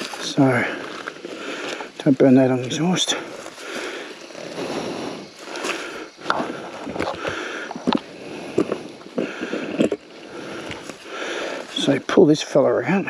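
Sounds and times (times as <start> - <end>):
rustling: 0.0 - 11.9.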